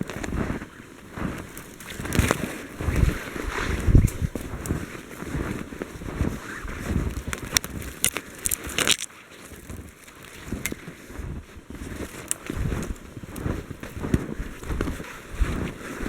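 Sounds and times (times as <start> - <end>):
sharp crackles: 0.0 - 10.9, 11.7 - 16.0
wind rumbling on microphone: 0.0 - 16.0.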